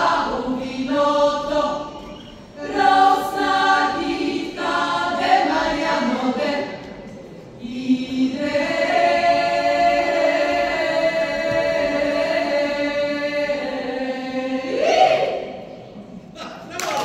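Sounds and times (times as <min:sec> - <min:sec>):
women singing in harmony: 0:00.0 - 0:15.7.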